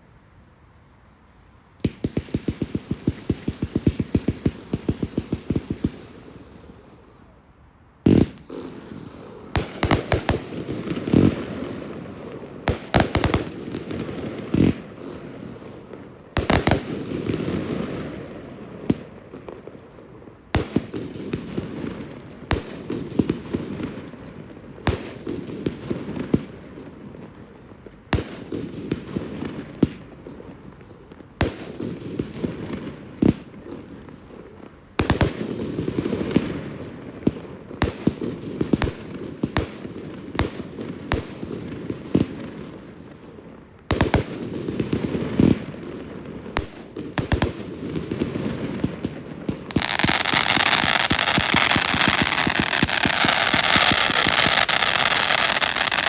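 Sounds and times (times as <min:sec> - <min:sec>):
fireworks popping and crackling: 0:01.8 - 0:07.0, 0:08.0 - 0:56.0.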